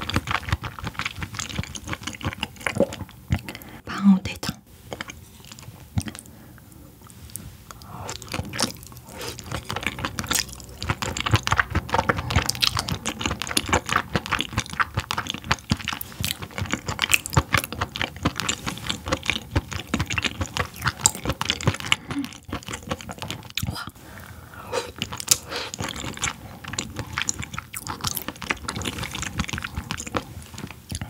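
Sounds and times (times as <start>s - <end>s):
wet chewing clicks and smacks: 0.0s - 3.8s, 4.4s - 6.3s, 7.0s - 23.8s, 24.9s - 31.0s.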